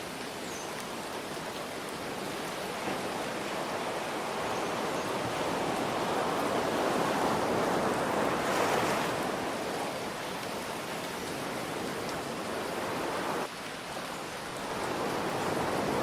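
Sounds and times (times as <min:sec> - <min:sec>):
ocean surf waves: 0:00.0 - 0:16.0
steady rain: 0:00.0 - 0:16.0.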